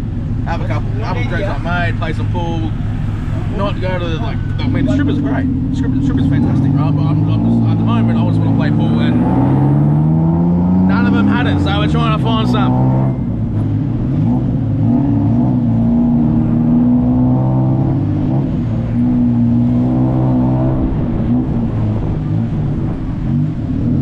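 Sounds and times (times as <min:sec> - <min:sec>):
motor vehicle engine revving: 0:00.0 - 0:24.0.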